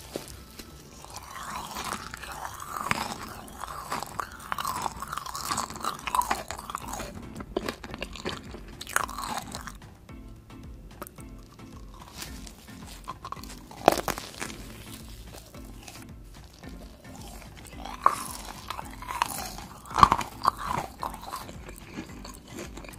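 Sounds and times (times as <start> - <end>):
squishy chewing with crunches: 0.0 - 9.8, 11.0 - 22.9.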